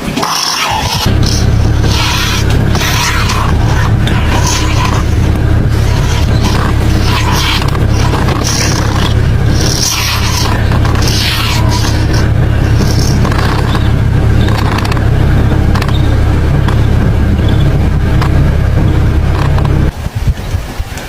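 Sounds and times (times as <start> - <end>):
vehicle engine humming: 0.0 - 20.2.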